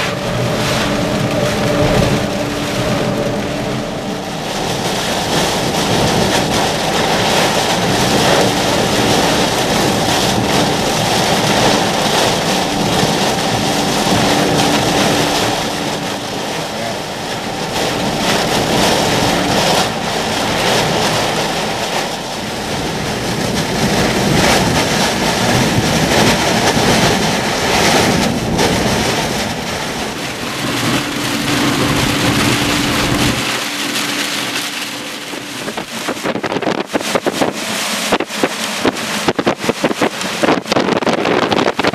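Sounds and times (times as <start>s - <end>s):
faint steady hum: 0.0s - 36.8s
low rumble: 0.0s - 41.0s
heavy driving rain: 0.0s - 41.9s
rushing wind: 0.0s - 41.9s.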